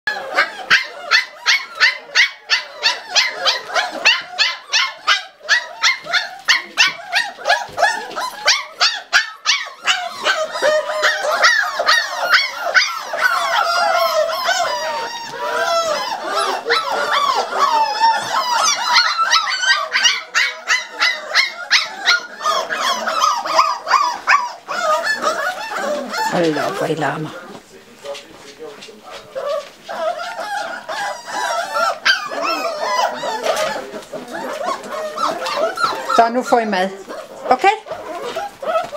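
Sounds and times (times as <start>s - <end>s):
puppies whining and howling: 0.1s - 27.6s, 29.1s - 38.9s
puppies yapping: 0.1s - 38.9s.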